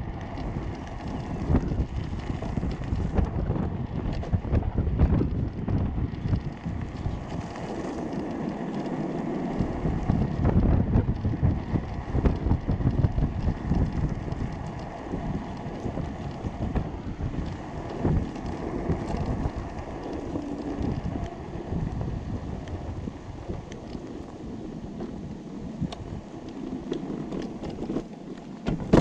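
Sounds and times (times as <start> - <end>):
go-kart rolling on asphalt: 0.0 - 29.0
wind buffeting microphone: 0.0 - 29.0.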